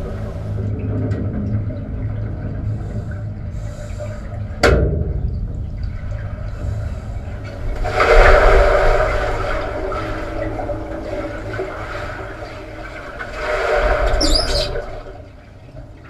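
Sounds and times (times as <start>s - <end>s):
low steady rumble: 0.0s - 16.0s
muffled rush of water and bubbles: 0.0s - 16.0s.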